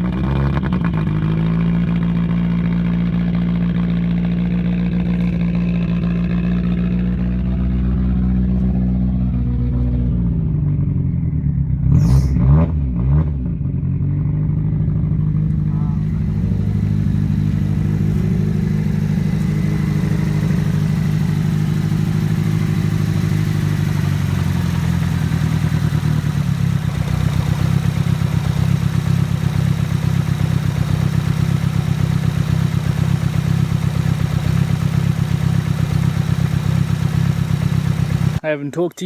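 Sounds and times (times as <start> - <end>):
car engine running: 0.0 - 38.4.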